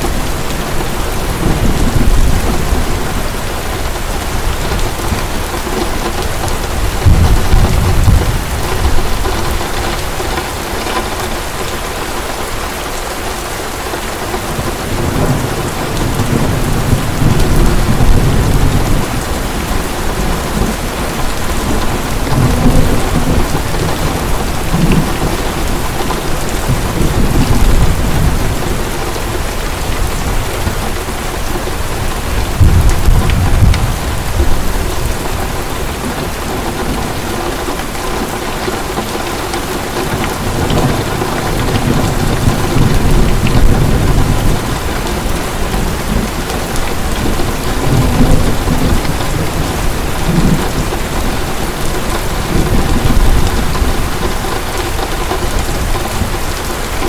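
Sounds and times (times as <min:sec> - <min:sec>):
thunder rumbling: 0:00.0 - 0:11.7, 0:14.3 - 0:57.0
heavy rain pouring: 0:00.0 - 0:57.0.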